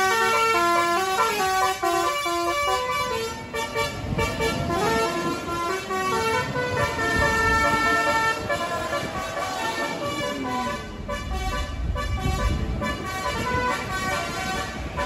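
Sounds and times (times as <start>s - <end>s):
bus engine rumble: 0.0s - 15.0s
musical bus horn playing tune: 0.0s - 15.0s.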